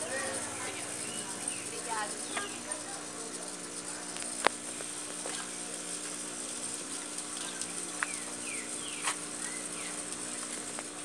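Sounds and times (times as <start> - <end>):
cotton candy machine humming: 0.0 - 11.0.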